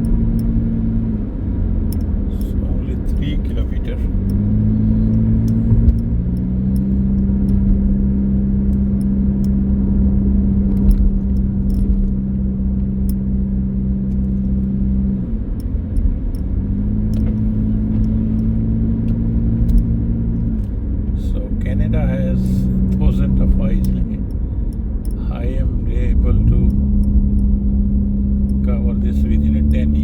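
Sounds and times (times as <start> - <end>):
car engine hum: 0.0 - 30.0
low road rumble: 0.0 - 30.0.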